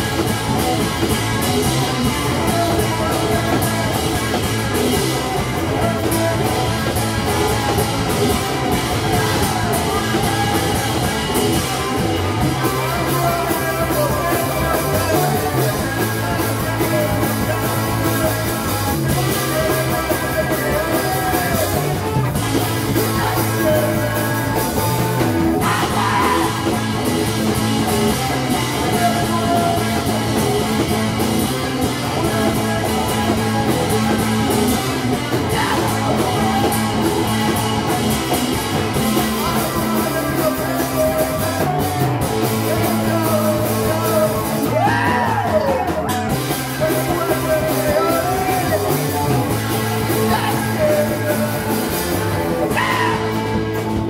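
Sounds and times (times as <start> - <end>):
person singing in wails: 0.0 - 22.2, 22.8 - 53.8
drum kit: 0.0 - 54.0
electric guitar: 0.0 - 54.0
keyboard: 0.0 - 54.0.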